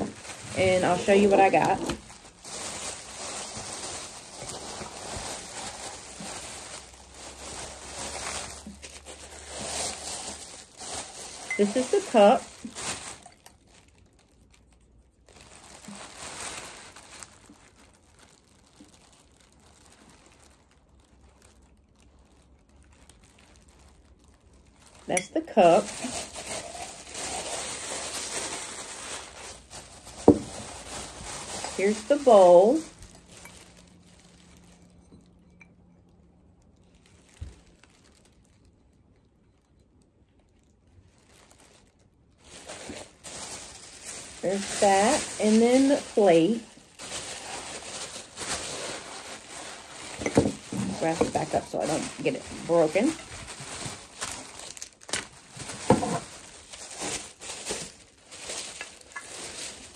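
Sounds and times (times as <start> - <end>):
plastic bags crinkling: 0.0 - 59.9.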